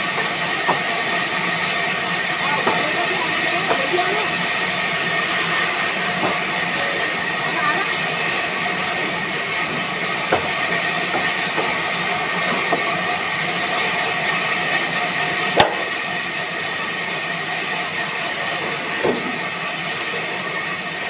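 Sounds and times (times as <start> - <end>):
sawmill machinery whine: 0.0 - 21.0.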